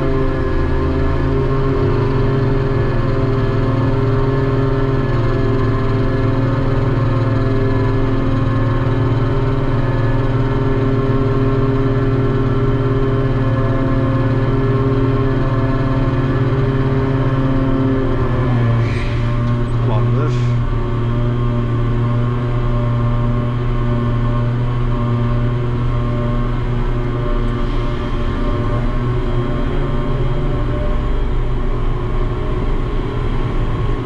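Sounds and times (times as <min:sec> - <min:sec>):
deck crane mechanical drone: 0:00.0 - 0:34.0.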